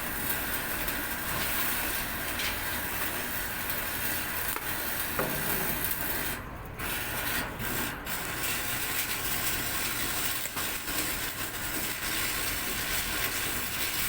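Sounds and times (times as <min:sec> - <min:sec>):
electric welding arc crackling: 0:00.0 - 0:14.0.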